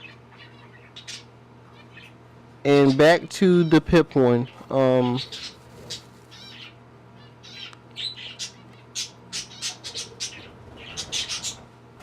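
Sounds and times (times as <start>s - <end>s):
budgerigars chirping: 0.0s - 3.8s, 4.4s - 11.6s.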